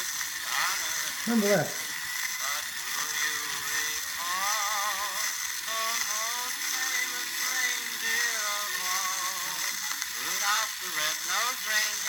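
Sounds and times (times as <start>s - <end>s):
christmas song on old record: 0.0s - 12.0s
record surface hiss: 0.0s - 12.0s.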